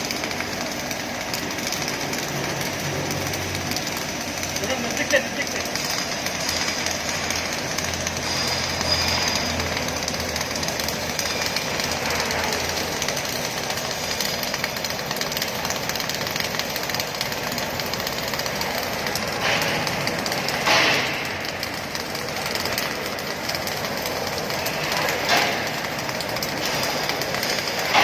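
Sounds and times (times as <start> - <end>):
welding arc crackling: 0.0 - 28.0.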